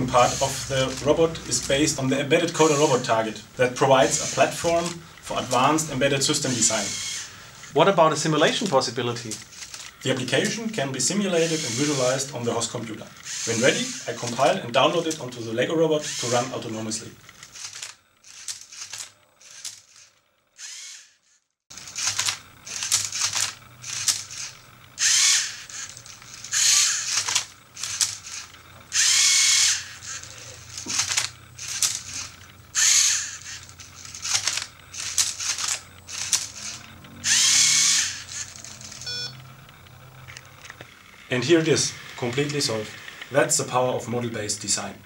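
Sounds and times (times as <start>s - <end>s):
servo motors whirring: 0.0s - 44.9s.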